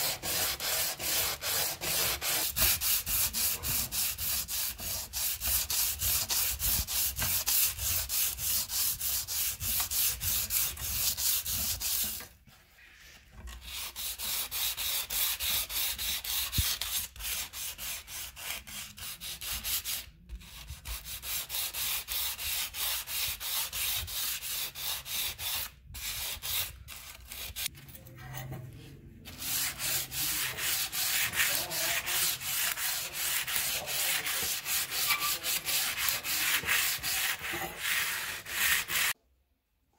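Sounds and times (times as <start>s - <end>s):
sandpaper scrubbing metal blade: 0.0s - 12.2s, 13.6s - 27.7s, 29.3s - 39.2s.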